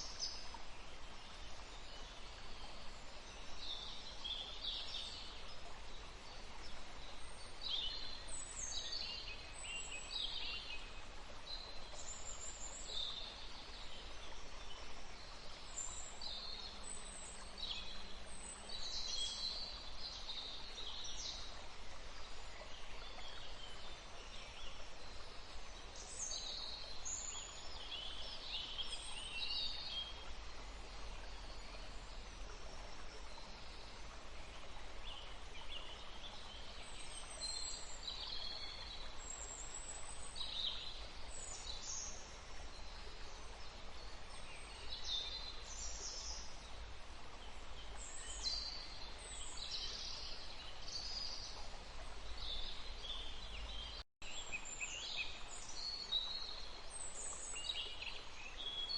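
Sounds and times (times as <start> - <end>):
forest stream rushing: 0.0 - 58.9
songbirds singing: 0.0 - 58.9.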